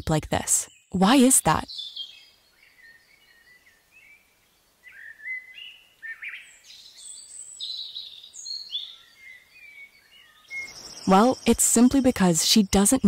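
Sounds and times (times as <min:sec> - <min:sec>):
faint background hiss: 0:00.0 - 0:13.0
birds chirping and singing: 0:00.8 - 0:13.0.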